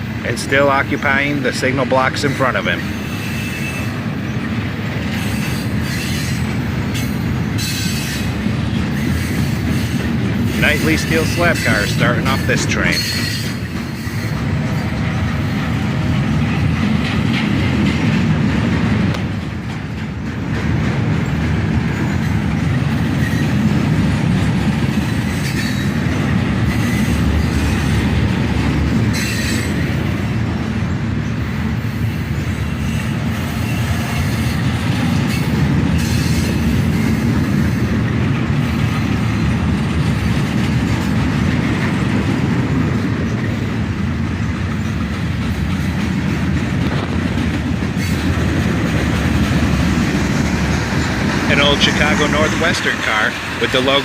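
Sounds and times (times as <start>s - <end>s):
train cars clanking: 0.0s - 54.0s
train wheels rumbling on rails: 0.0s - 54.0s.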